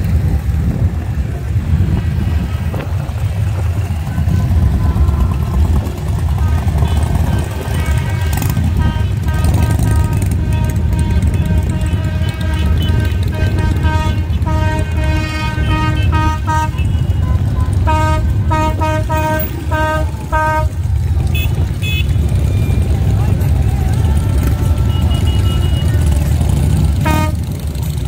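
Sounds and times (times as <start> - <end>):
engines rumbling: 0.0 - 28.0
vehicle horn honking: 3.5 - 23.1, 24.3 - 27.8.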